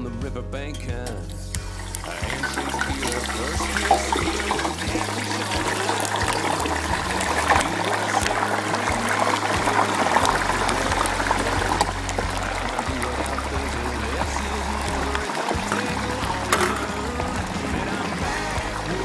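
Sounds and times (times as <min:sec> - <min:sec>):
music: 0:00.0 - 0:19.0
oil bubbling and sizzling: 0:01.2 - 0:19.0.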